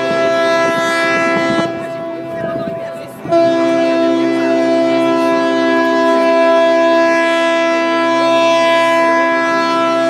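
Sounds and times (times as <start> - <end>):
loud horn chord: 0.0 - 2.3, 3.2 - 10.0.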